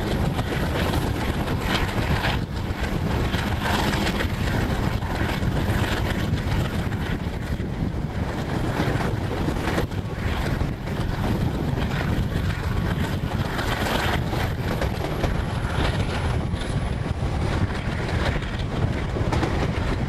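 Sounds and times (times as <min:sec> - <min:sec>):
train wheels rumbling on rails: 0:00.0 - 0:20.0
wind buffeting microphone: 0:00.0 - 0:20.0.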